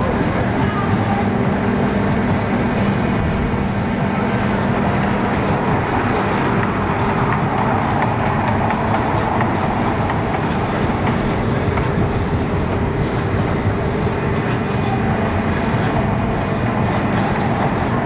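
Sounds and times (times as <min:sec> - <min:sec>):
ride machinery rumbling: 0:00.0 - 0:18.0.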